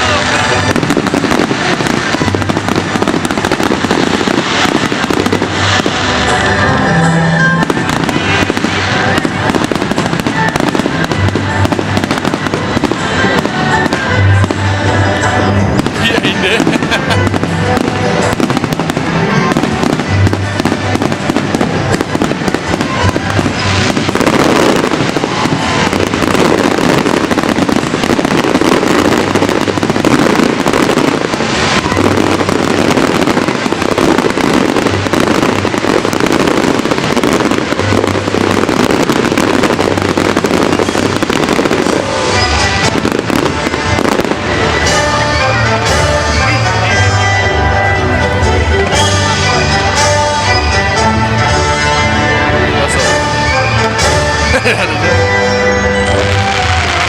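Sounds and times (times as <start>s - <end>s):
fireworks bursting and crackling: 0.0s - 57.0s
show music with pulsing bass: 0.0s - 57.0s.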